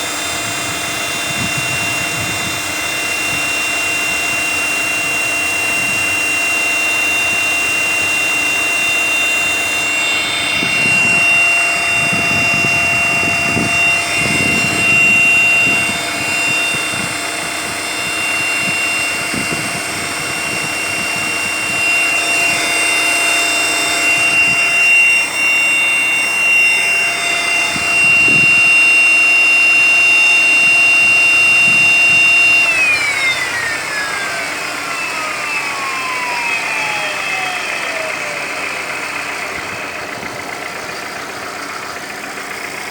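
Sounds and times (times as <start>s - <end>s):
air pump high whistle: 0.0s - 42.9s
car engine idling: 0.0s - 42.9s.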